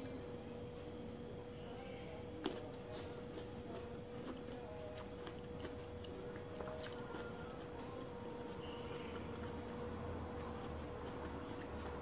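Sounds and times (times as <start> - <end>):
faint hum: 0.0 - 12.0
wet chewing clicks and smacks: 2.4 - 12.0.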